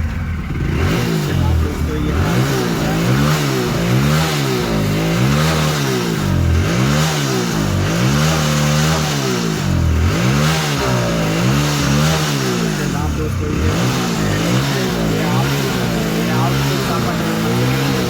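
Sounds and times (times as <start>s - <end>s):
engine revving up and down: 0.0s - 18.0s.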